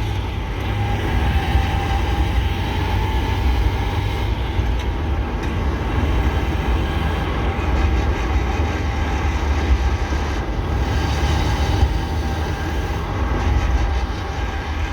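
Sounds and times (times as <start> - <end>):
drivetrain and road rumble: 0.0 - 14.9.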